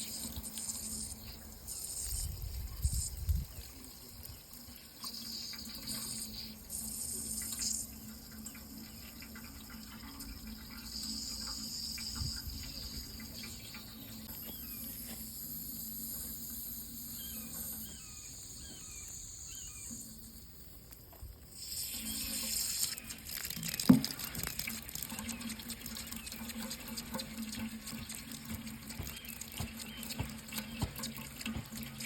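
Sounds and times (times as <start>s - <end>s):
running water: 0.0s - 18.2s, 21.2s - 32.0s
insects trilling: 0.0s - 32.0s.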